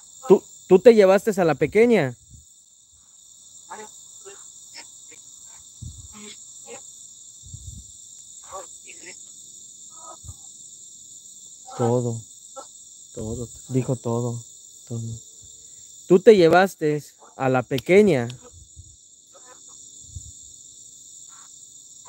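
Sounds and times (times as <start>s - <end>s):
crickets and insects chorus: 0.0s - 22.0s.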